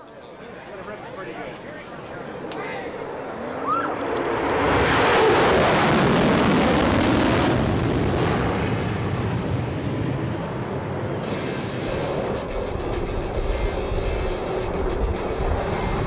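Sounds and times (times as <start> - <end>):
jet engines passing overhead: 0.0 - 16.0.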